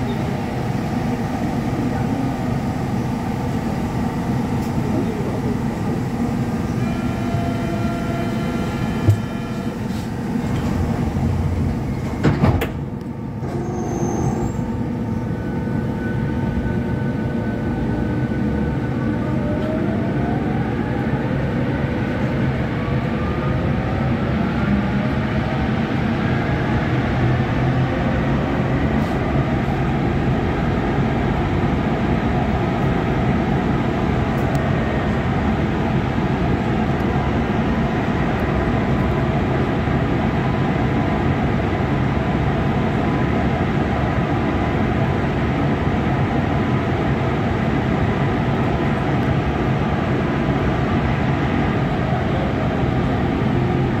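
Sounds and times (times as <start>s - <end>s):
metro train pulling away: 0.0s - 54.0s.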